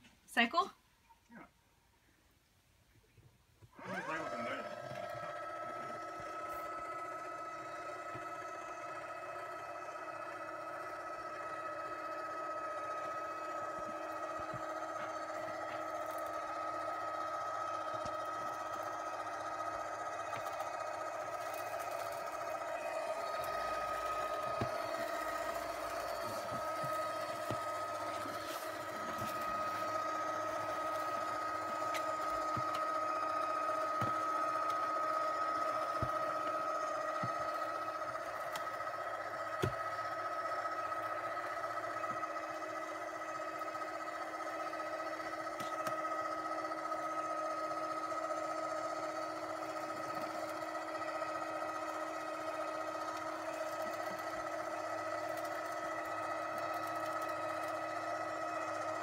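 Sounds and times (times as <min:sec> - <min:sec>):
motor humming with whine: 0:00.0 - 0:59.0.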